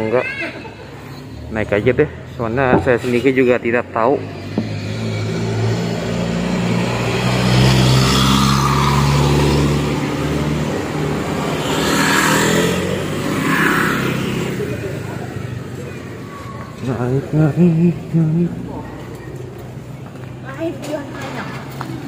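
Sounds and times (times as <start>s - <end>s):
traffic noise: 0.0s - 22.0s
vehicle engine humming: 0.0s - 22.0s.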